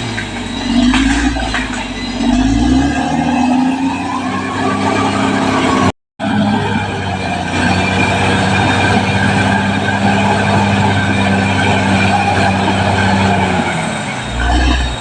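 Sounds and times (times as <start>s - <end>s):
bulldozer diesel engine: 0.0s - 15.0s
tracks and machinery clattering: 0.0s - 15.0s.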